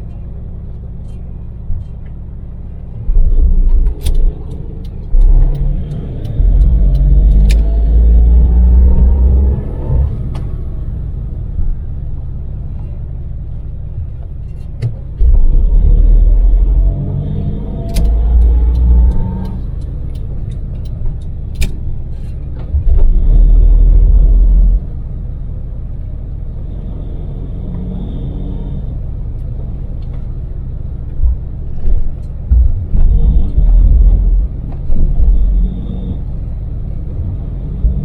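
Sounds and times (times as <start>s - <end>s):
heavy low rumble: 0.0s - 38.0s
road noise: 0.0s - 38.0s
small van engine cruising: 0.0s - 38.0s.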